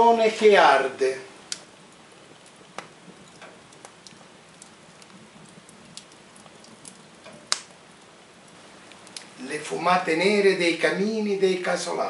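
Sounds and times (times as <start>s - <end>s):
fire popping: 0.0s - 12.0s
wood fire crackling: 0.0s - 12.0s.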